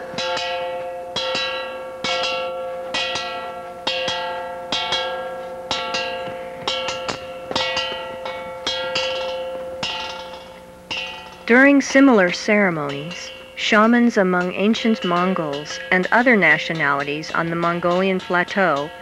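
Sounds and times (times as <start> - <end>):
metal percussion struck in steady beat: 0.0 - 19.0.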